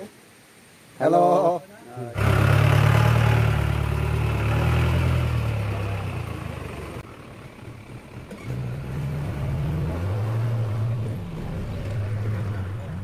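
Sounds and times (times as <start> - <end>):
jeep engine running: 2.2 - 13.0.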